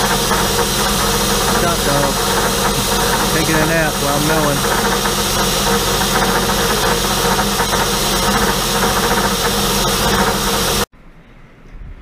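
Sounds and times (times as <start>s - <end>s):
milling machine cutting metal: 0.0s - 10.9s
spray coolant hissing: 0.0s - 10.9s.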